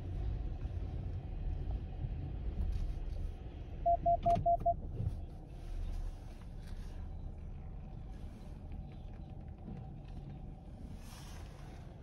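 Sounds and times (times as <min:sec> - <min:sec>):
muffled car wash rumble: 0:00.0 - 0:12.0.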